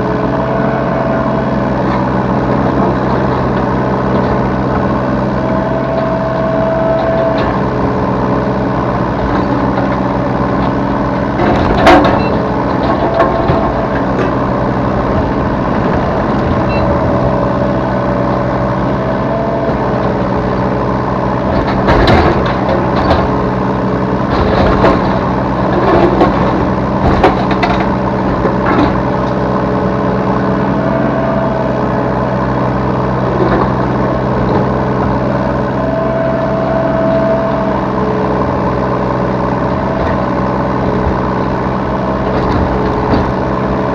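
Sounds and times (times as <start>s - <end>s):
excavator diesel engine running: 0.0s - 43.9s
hydraulic whine: 0.0s - 43.9s.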